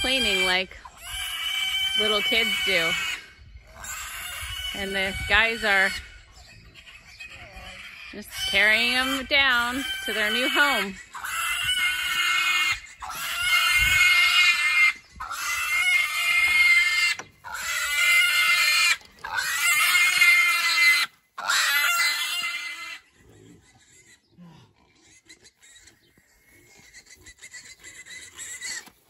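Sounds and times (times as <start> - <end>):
piglets squealing: 0.0 - 24.3, 25.0 - 29.0.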